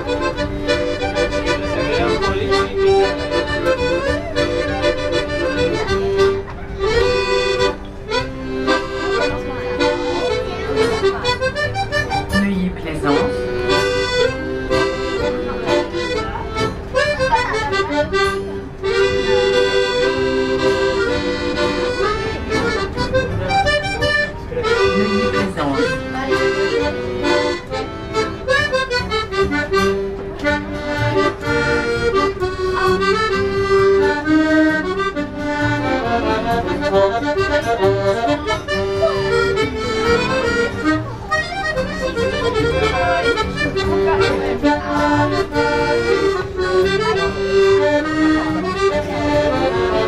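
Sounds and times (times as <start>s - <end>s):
accordion playing a tune: 0.0s - 50.0s.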